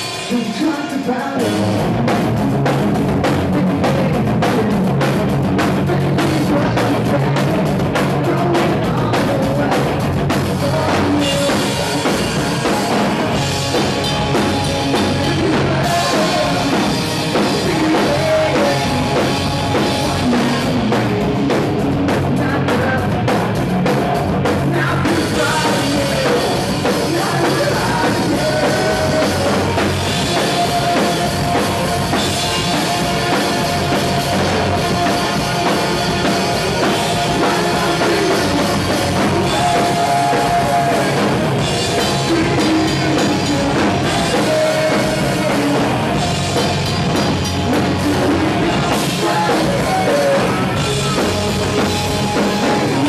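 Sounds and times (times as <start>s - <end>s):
distorted electric guitars: 0.0s - 53.0s
drum kit: 0.0s - 53.0s
person singing lead vocal: 0.0s - 53.0s.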